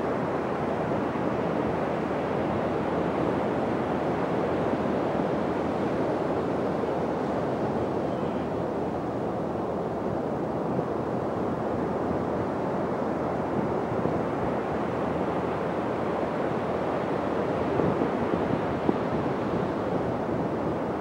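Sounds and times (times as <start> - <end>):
ocean surf on beach: 0.0 - 21.0
wind on microphone: 0.0 - 21.0.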